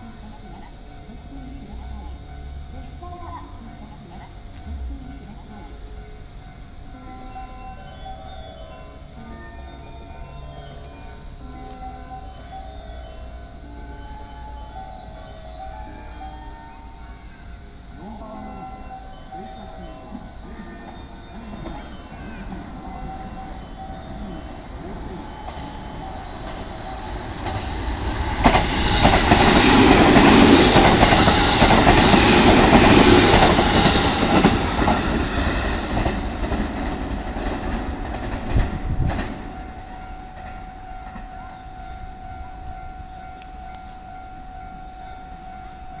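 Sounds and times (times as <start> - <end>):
train rushing past: 0.0 - 46.0.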